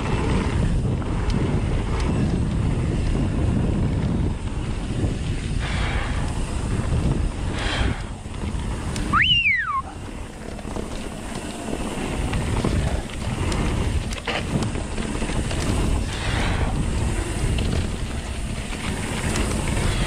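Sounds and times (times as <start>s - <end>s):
mountain bike rumbling down trail: 0.0s - 20.0s
wind buffeting microphone: 0.0s - 20.0s.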